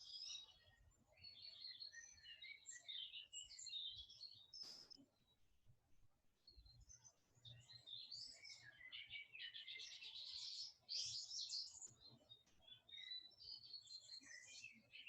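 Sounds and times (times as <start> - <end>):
birds chirping and twittering: 0.0 - 5.4, 6.4 - 15.0.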